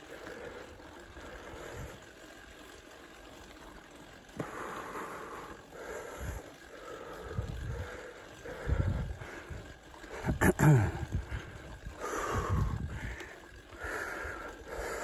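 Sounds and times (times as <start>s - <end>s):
bike tyres rolling on dirt: 0.0s - 15.0s.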